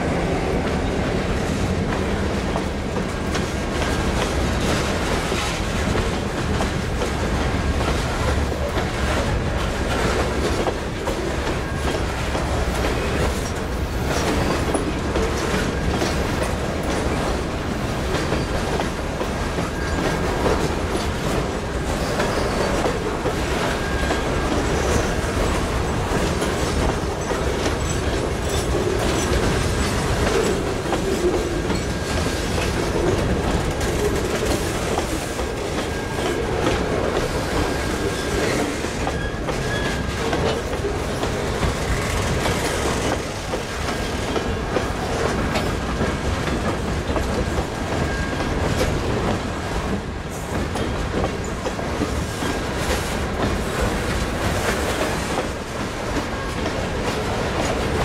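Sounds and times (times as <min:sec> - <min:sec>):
clickety-clack over rail joints: 0:00.0 - 0:58.0
train wheels rumbling on rails: 0:00.0 - 0:58.0.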